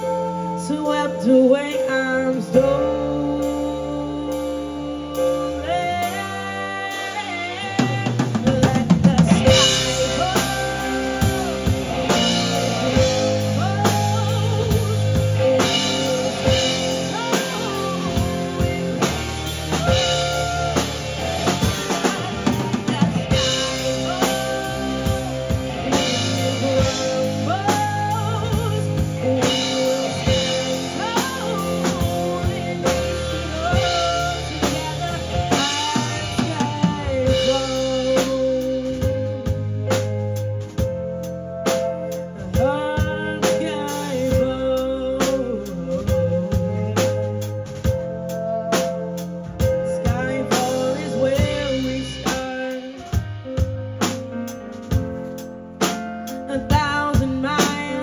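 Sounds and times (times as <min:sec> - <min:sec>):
bass: 0:00.0 - 0:58.0
drum kit steady beat: 0:00.0 - 0:58.0.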